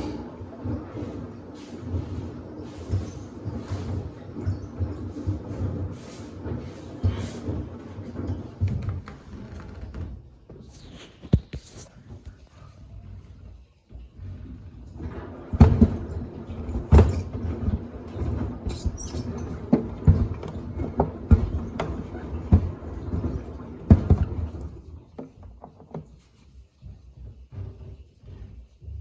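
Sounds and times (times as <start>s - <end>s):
washer drum rumble: 0.0s - 10.6s, 11.2s - 29.0s.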